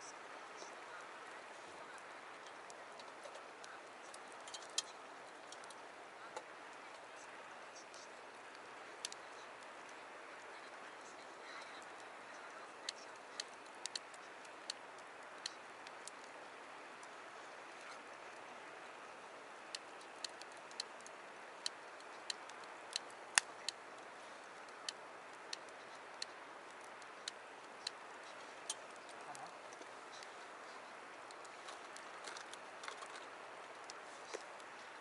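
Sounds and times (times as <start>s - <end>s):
campfire crackling and popping: 0.0s - 35.0s
fire hiss: 0.4s - 35.0s.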